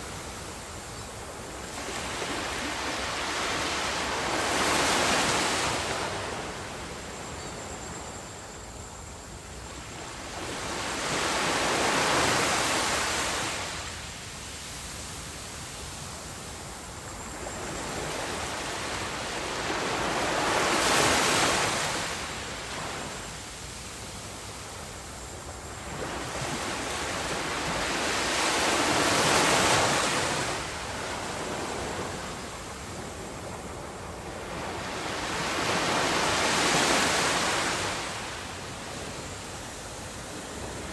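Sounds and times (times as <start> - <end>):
waves breaking on a beach: 0.0 - 7.9, 9.8 - 40.9.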